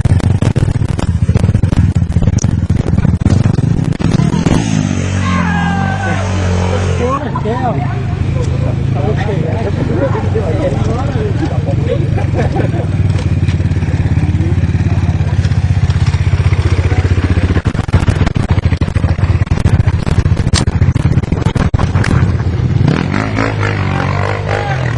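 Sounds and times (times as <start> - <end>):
dirt bike engine running: 0.0 - 24.9.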